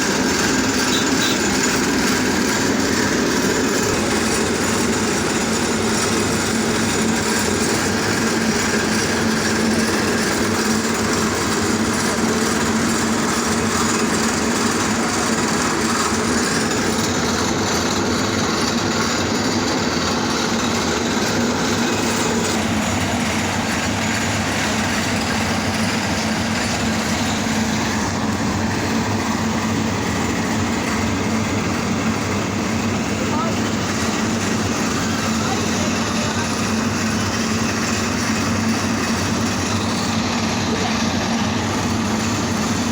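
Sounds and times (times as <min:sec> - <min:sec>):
road machinery engine hum: 0:00.0 - 0:42.9.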